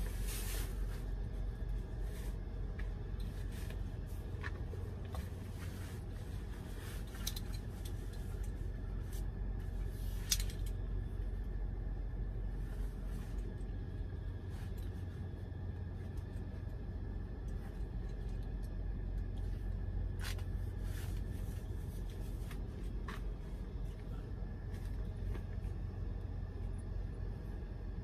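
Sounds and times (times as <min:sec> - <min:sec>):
clothing rustling: 0:00.0 - 0:26.8
steady low hum: 0:00.0 - 0:28.0.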